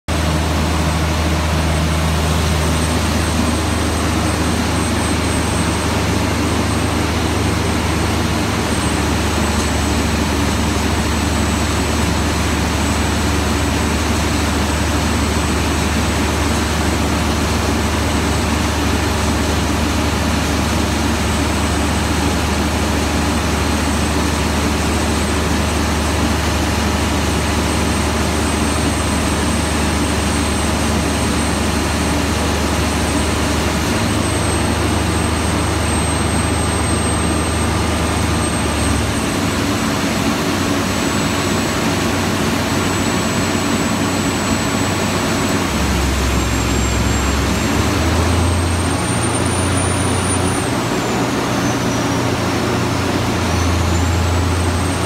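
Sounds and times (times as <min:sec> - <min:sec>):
diesel generator droning: 0:00.1 - 0:55.0.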